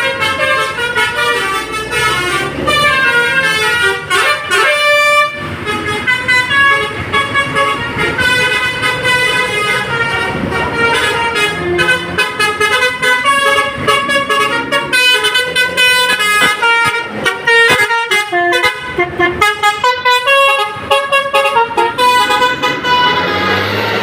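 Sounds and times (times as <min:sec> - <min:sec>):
vehicle horns sounding: 0:00.0 - 0:24.0.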